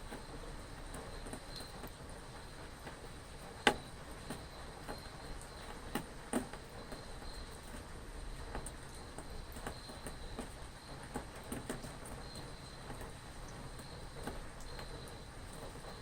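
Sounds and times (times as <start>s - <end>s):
steady rain: 0.0s - 16.0s
crickets trilling: 0.1s - 16.0s.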